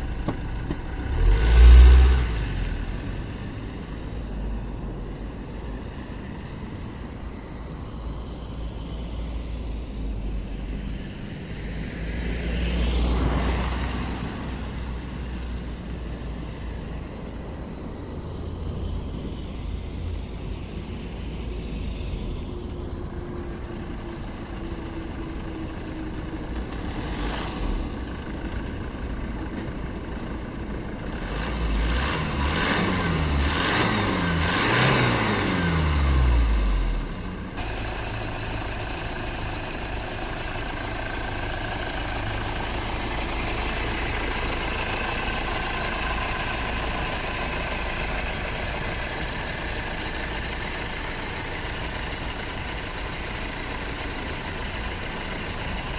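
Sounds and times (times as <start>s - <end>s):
diesel car engine running and revving: 0.0s - 55.9s.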